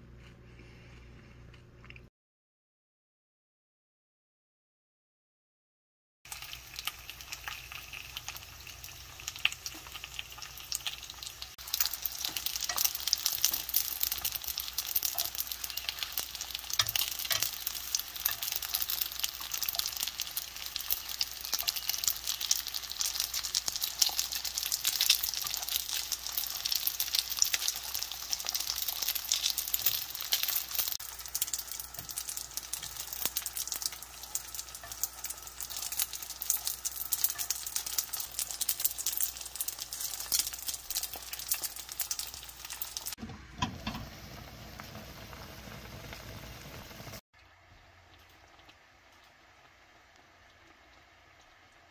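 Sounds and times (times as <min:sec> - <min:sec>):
dumplings sizzling in a pan: 0:06.3 - 0:51.9.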